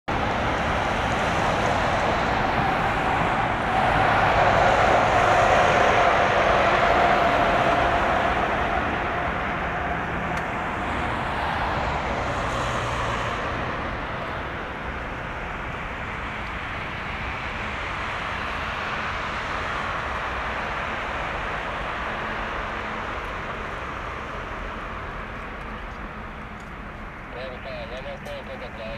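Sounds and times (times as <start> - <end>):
jet aircraft engines rushing: 0.1 - 28.9.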